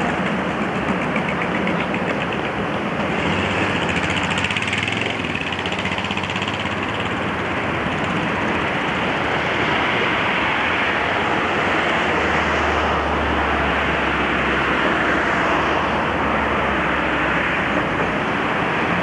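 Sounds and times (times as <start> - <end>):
railway train running: 0.0 - 19.0.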